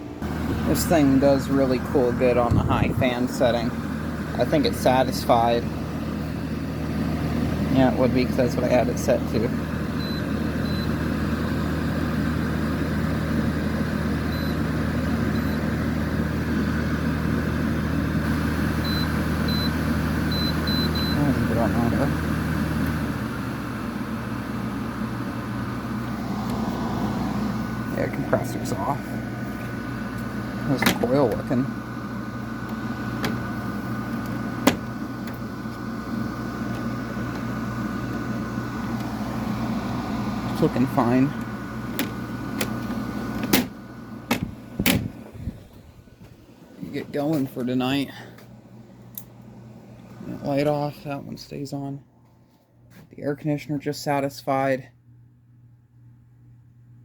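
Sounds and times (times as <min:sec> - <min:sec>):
electrical hum: 0:00.0 - 0:57.0
faint steady whine: 0:00.0 - 0:57.0
fan blowing: 0:00.0 - 0:57.0.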